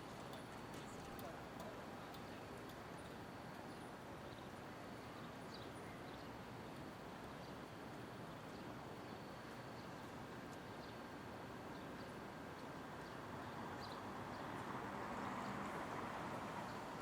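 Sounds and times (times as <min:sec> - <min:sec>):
traffic and urban hum: 0:00.0 - 0:17.0.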